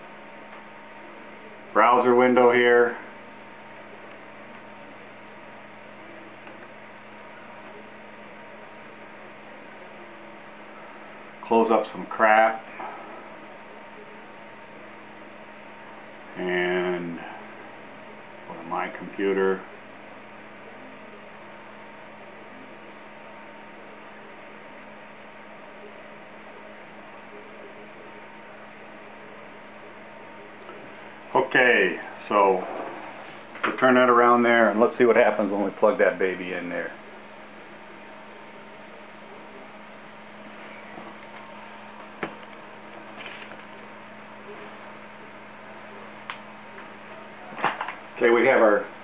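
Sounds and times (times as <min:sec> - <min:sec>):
electrical hum: 0:00.0 - 0:49.0.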